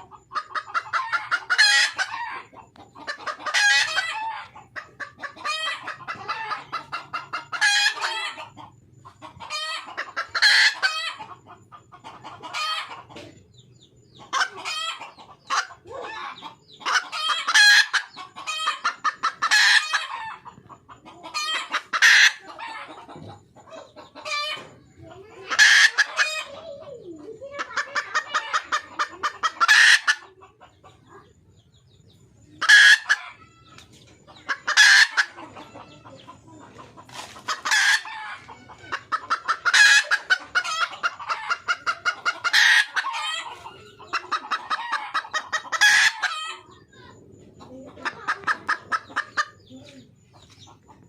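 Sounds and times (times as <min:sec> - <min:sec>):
hen clucking and cackling: 0:00.0 - 0:51.0.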